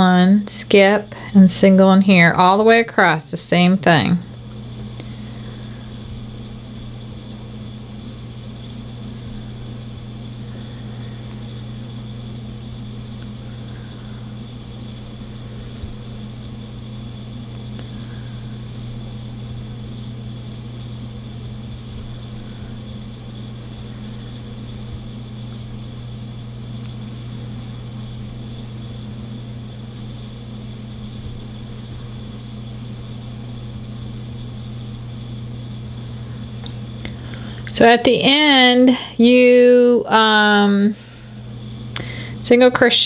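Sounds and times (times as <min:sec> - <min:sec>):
faint high whine: 0:00.0 - 0:43.0
low electrical hum: 0:00.0 - 0:43.0.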